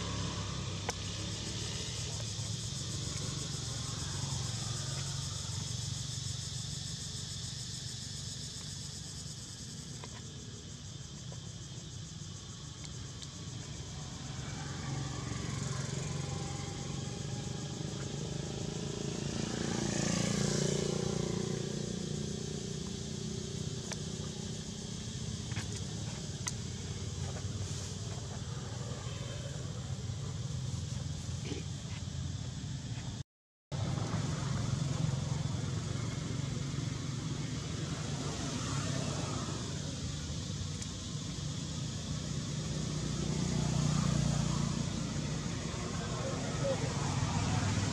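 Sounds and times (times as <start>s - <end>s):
distant motor vehicles rumbling: 0.0s - 33.2s, 33.8s - 47.9s
vehicles passing: 0.0s - 33.2s, 33.8s - 47.9s.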